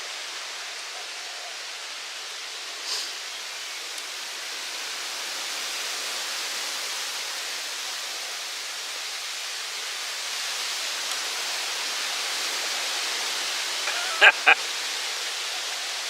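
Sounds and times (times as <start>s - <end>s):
wind rushing through trees: 0.0s - 16.0s.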